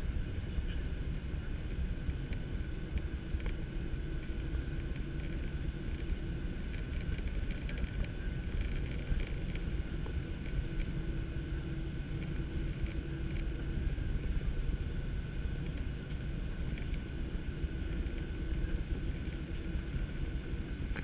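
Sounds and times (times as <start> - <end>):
deep cabin rumble: 0.0 - 21.0
high engine whine: 0.0 - 21.0.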